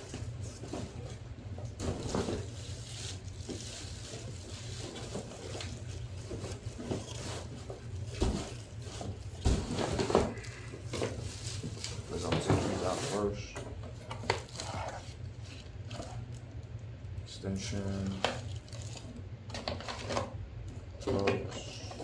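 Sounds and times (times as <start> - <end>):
cardboard and plastic rustling: 0.0 - 16.7, 17.4 - 20.4, 21.0 - 22.0.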